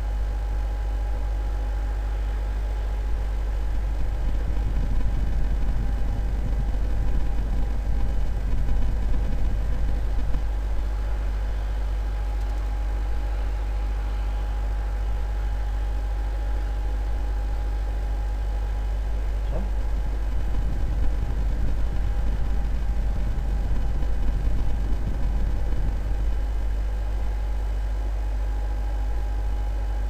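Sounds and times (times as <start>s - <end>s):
faint hum: 0.0s - 30.0s
low rumble with hiss: 0.0s - 30.0s.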